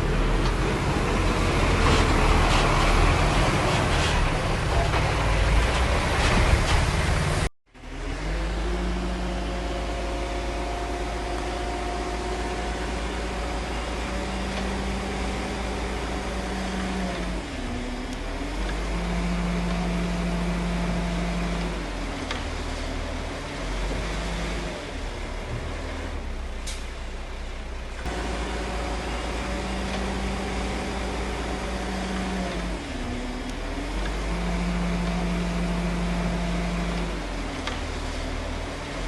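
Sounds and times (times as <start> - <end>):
diesel construction machinery running: 0.0 - 39.0.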